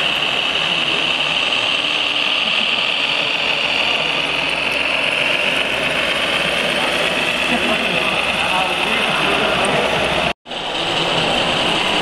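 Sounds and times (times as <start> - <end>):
model vehicle high-pitched whine: 0.0 - 12.0.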